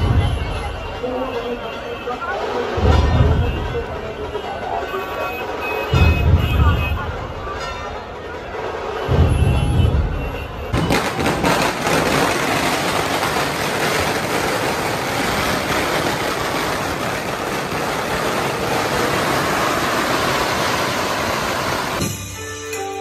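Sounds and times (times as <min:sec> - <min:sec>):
firecrackers crackling: 0:00.0 - 0:01.0, 0:02.3 - 0:22.2.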